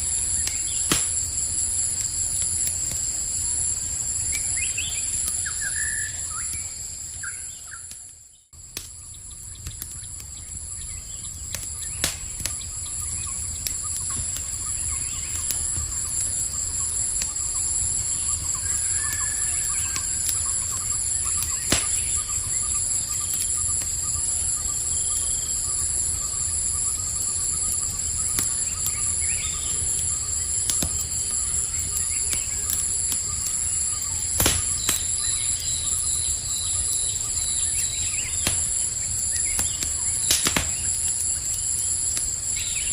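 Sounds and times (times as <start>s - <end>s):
campfire crackling: 0.0s - 42.9s
crickets trilling: 0.0s - 42.9s.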